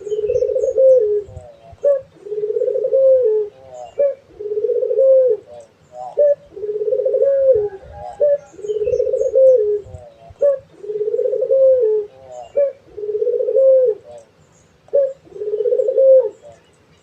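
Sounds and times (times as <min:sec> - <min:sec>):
dove cooing: 0:00.0 - 0:16.7.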